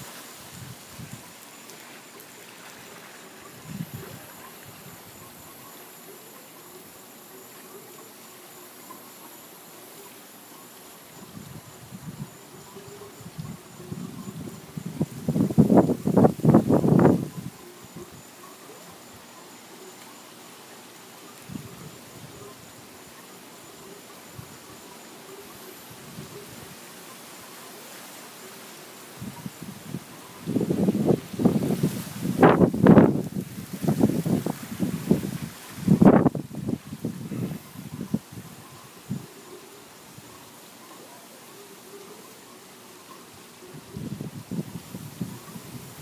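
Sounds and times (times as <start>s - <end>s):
faint outdoor hiss: 0.0s - 46.0s
insects trilling: 0.0s - 46.0s.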